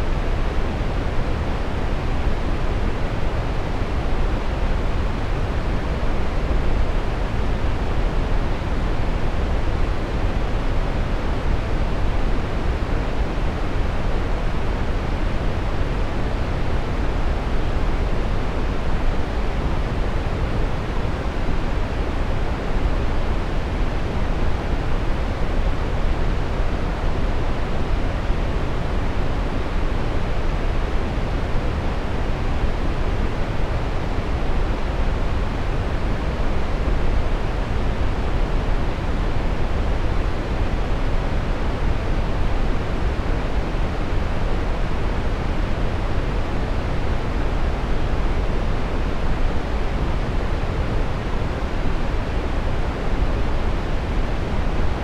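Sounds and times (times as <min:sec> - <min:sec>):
steady brown noise: 0:00.0 - 0:55.0.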